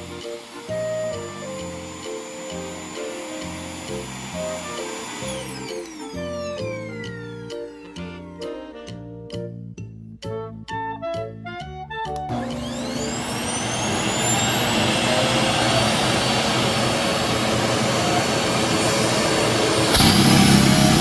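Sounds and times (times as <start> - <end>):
vacuum cleaner motor whine: 0.0 - 9.1, 12.1 - 21.0.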